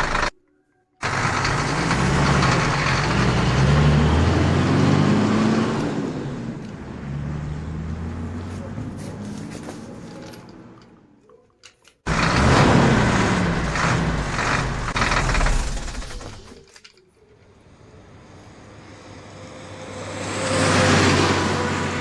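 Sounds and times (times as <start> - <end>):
vehicle engine hum: 0.0 - 0.4, 1.0 - 11.2, 12.0 - 22.0.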